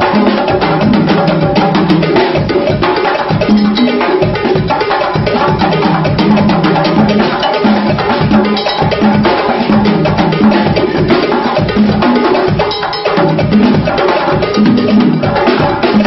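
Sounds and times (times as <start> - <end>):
congas played by hand: 0.0 - 16.0.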